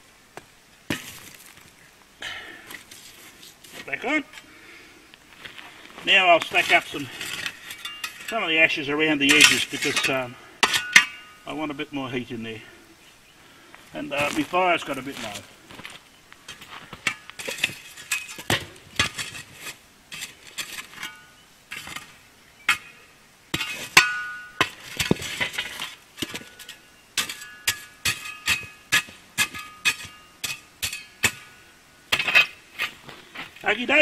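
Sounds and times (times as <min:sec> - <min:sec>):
shovel scraping ashes: 0:02.6 - 0:04.5, 0:05.4 - 0:11.6, 0:13.8 - 0:34.0.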